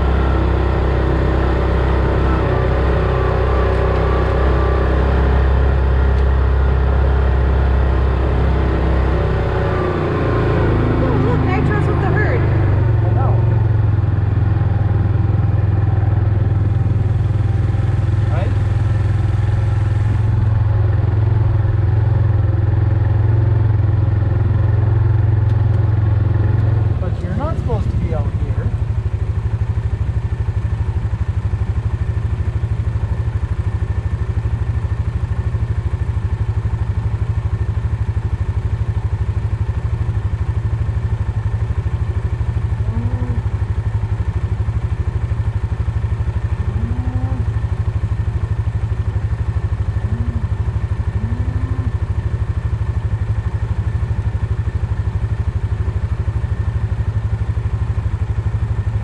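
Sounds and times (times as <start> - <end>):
vehicle engine humming with rattle: 0.0 - 59.0.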